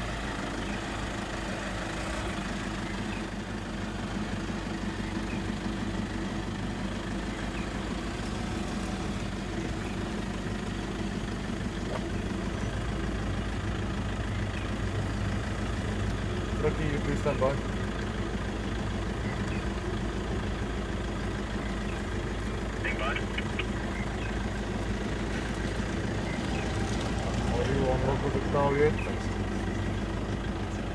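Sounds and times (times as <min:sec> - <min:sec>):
vehicle engine idling: 0:00.0 - 0:30.9.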